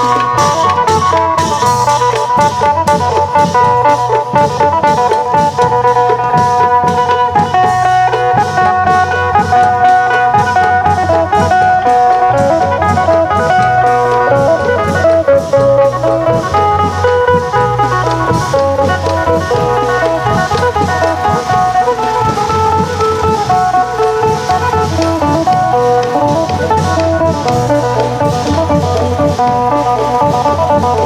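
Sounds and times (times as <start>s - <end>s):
long drums beating: 0.0s - 31.0s
plucked lute melody: 0.0s - 31.0s.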